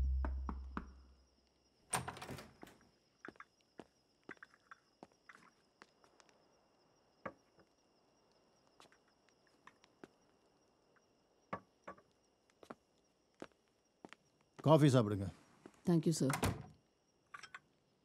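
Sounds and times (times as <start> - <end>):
faint high insect drone: 0.0 - 18.0.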